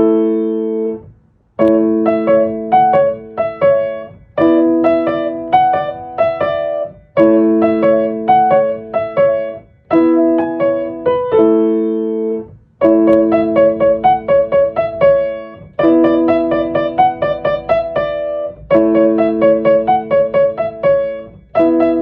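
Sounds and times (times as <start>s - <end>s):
solo piano melody: 0.0s - 22.0s.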